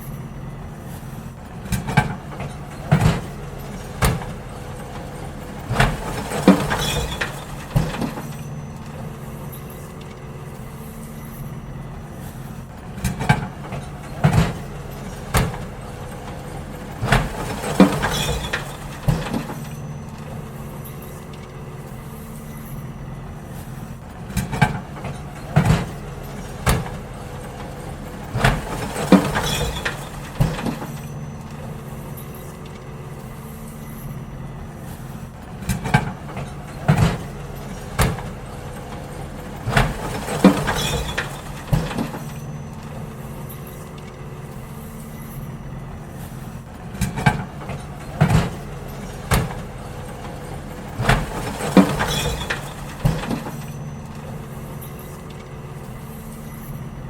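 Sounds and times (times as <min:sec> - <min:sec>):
bins banging and clattering: 0:00.0 - 0:57.0
diesel engine idling: 0:00.0 - 0:57.0.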